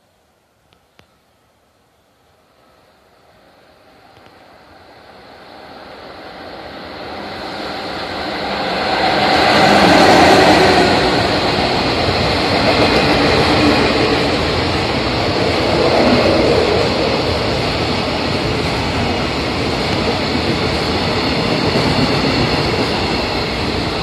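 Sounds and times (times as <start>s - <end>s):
electric locomotive passing: 2.4s - 24.0s.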